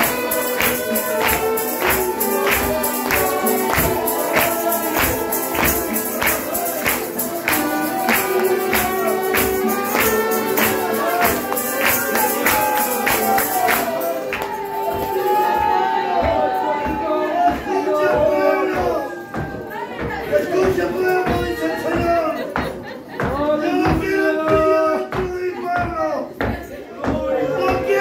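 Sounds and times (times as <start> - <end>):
voices singing a hymn: 0.0 - 22.6
steady percussive beat: 0.0 - 28.0.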